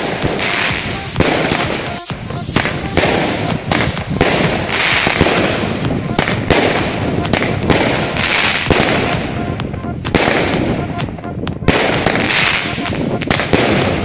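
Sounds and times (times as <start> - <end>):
fireworks crackling: 0.0 - 14.0
fireworks loud bangs: 0.0 - 14.0.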